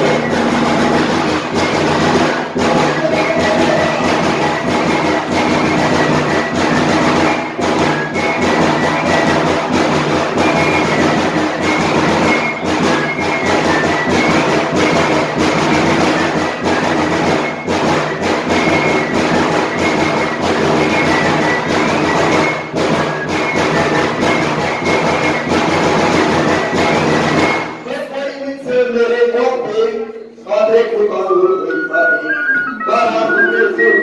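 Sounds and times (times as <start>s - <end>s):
high whistle-like melody: 0.0s - 28.0s, 31.1s - 34.0s.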